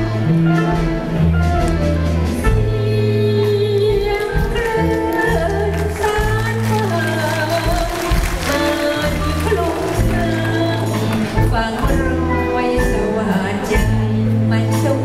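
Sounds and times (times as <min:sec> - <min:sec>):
held bass notes: 0:00.0 - 0:15.0
live band: 0:00.0 - 0:15.0
woman singing into microphone: 0:02.5 - 0:15.0.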